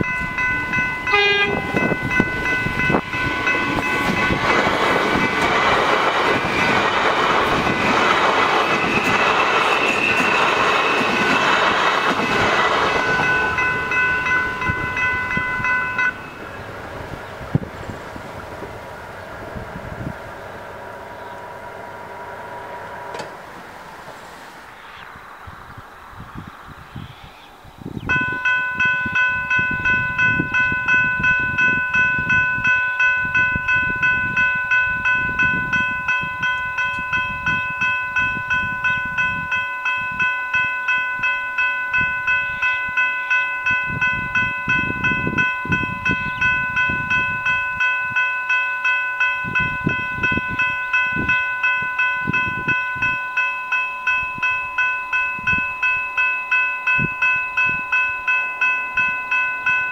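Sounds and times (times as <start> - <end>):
electronic crossing bells dinging: 0.0 - 17.8, 28.1 - 59.9.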